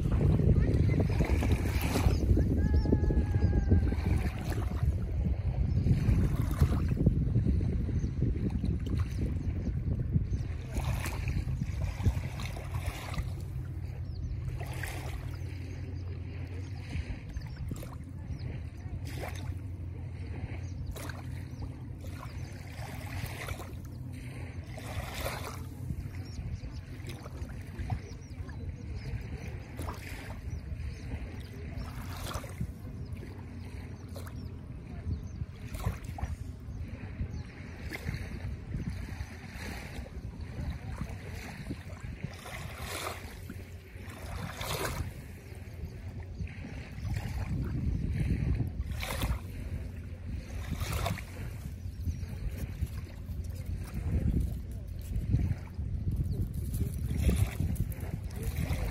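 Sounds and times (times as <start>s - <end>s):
soft splashes: 0.0s - 58.9s
water lapping at shore: 0.0s - 58.9s
wind rumbling on microphone: 0.0s - 58.9s.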